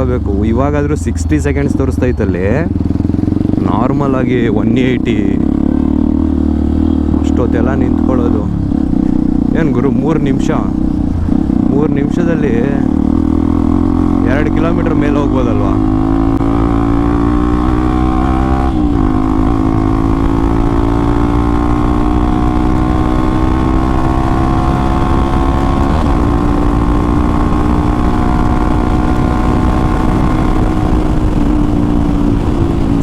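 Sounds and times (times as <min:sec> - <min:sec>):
motorcycle engine riding: 0:00.0 - 0:33.0.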